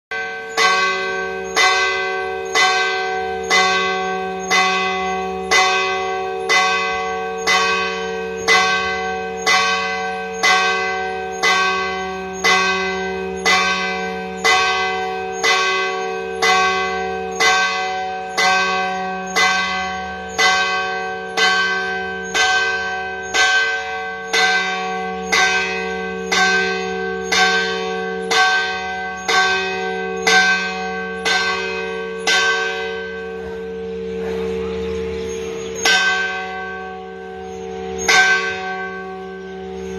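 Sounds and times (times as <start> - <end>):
church bell tolling: 0.1 - 39.9.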